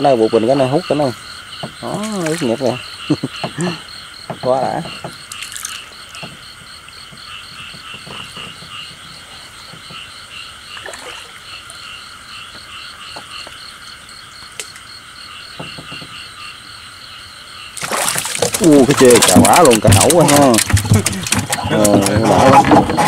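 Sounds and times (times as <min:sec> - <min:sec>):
frogs croaking in chorus: 0:00.0 - 0:23.0.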